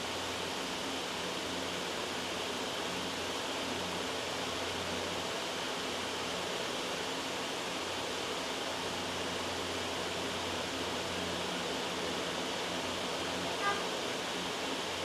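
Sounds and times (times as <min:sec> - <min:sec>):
steady white noise hiss: 0:00.0 - 0:15.0.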